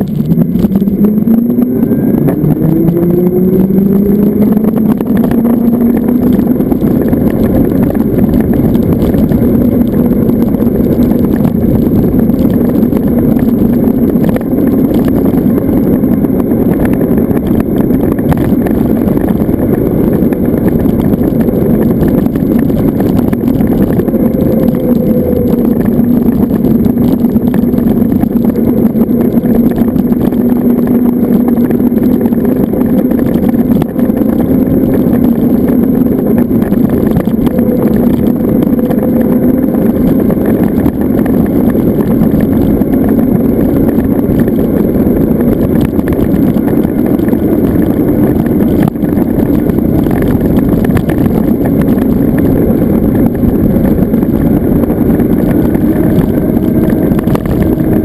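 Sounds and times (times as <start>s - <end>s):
electric motor hum: 0.0s - 58.0s
wind and road noise: 0.0s - 58.0s.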